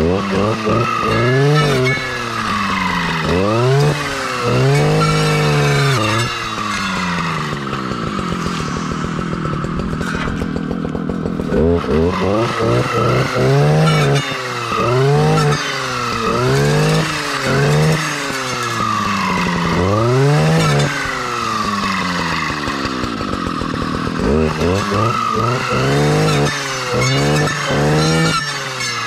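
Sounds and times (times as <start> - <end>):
clearing saw engine revving: 0.0 - 29.0.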